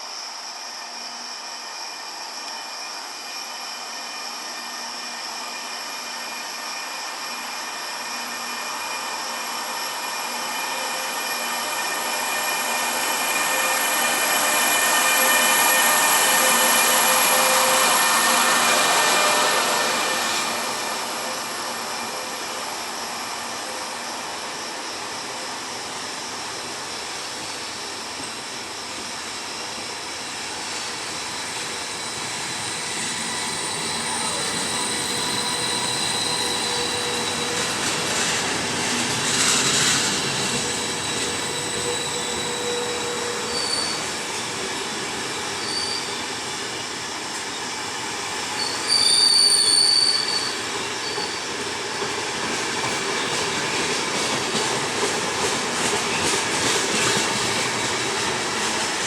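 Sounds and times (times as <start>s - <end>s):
train wheels squealing on rails: 0.0s - 59.0s
train rolling noise: 0.9s - 59.0s.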